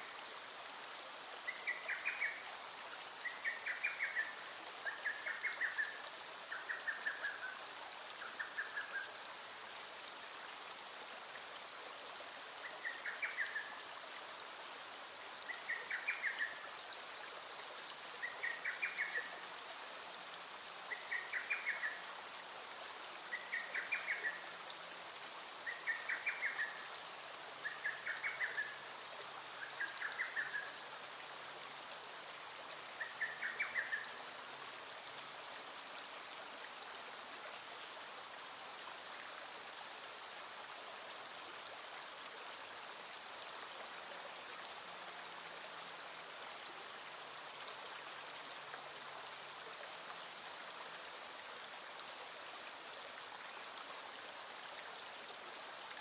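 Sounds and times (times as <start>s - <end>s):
small stream flowing: 0.0s - 56.0s.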